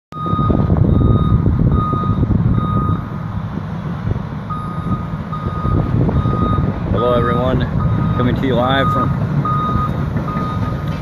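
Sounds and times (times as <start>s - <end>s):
reversing alarm beeping: 0.1s - 3.2s, 4.5s - 11.0s
low engine rumble: 0.2s - 11.0s.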